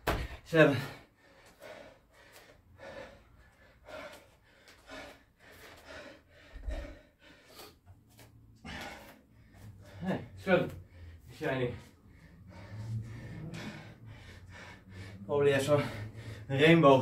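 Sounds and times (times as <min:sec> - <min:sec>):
man breathing hard: 0:00.0 - 0:17.0.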